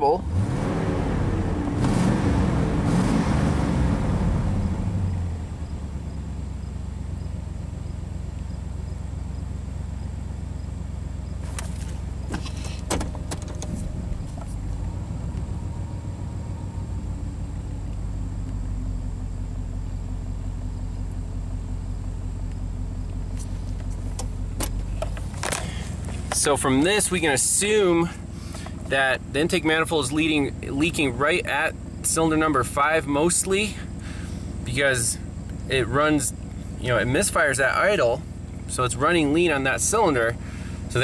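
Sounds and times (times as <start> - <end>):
truck engine idling: 3.8 - 41.0.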